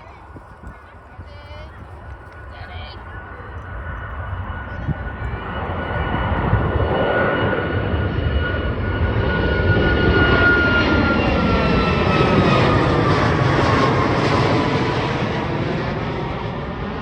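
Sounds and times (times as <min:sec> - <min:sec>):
airliner engines rumbling: 0:00.0 - 0:17.0.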